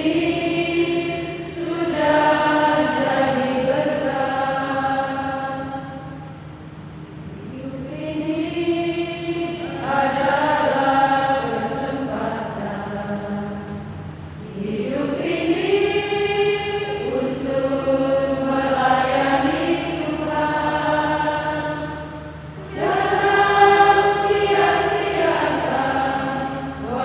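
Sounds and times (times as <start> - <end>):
nuns singing a hymn: 0.0 - 27.0.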